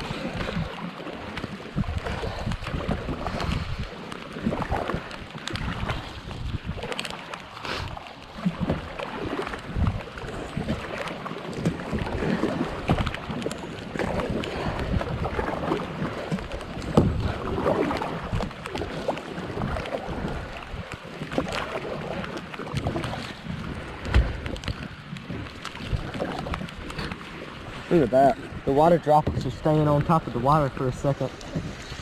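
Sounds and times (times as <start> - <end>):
heavy rain on water: 0.0 - 32.0
wind on microphone: 0.0 - 32.0.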